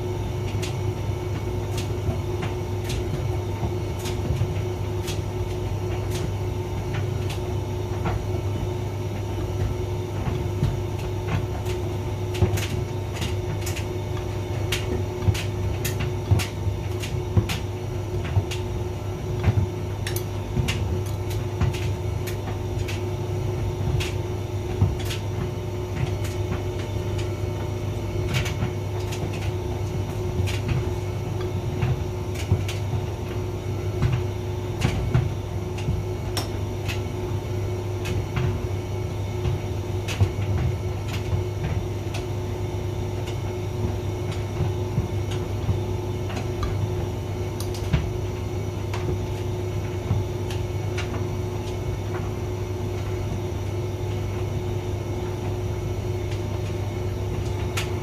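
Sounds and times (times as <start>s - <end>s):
tumble dryer motor hum: 0.0s - 58.0s
clicks and knocks of tumbling load: 0.4s - 58.0s.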